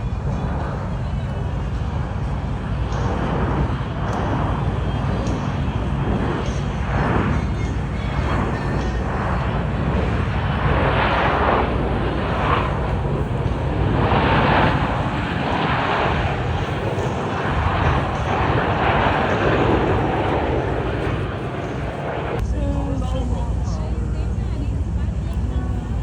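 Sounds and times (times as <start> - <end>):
aircraft engine roar: 0.0 - 26.0.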